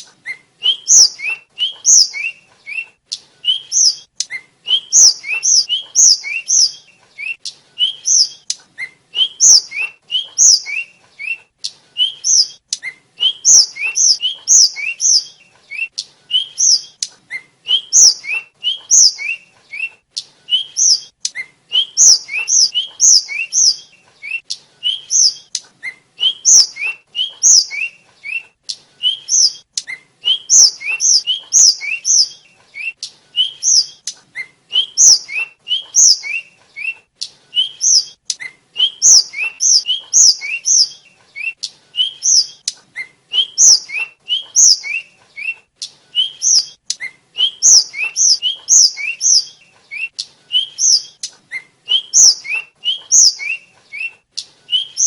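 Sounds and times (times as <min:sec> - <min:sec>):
small bird chirping: 0:00.0 - 0:55.0.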